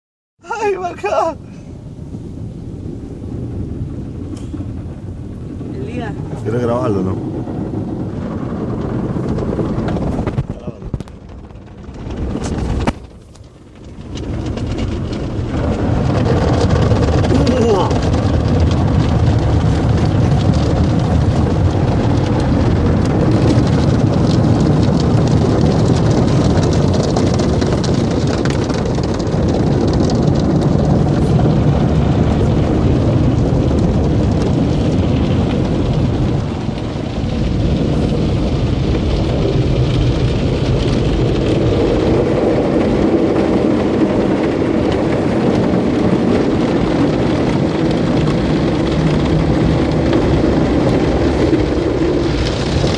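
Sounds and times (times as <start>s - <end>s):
car wash water spray and machinery: 0.5s - 52.9s.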